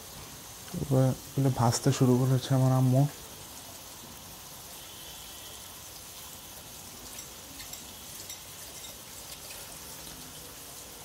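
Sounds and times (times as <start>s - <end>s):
prawns sizzling in oil: 0.0s - 11.0s.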